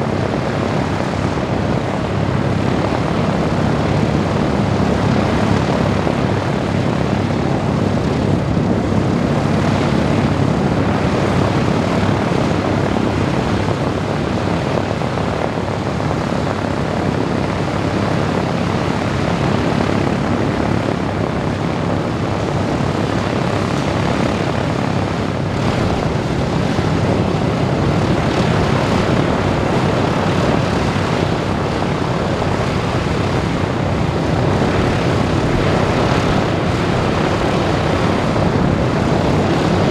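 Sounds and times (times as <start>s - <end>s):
propeller engines droning: 0.0s - 39.9s.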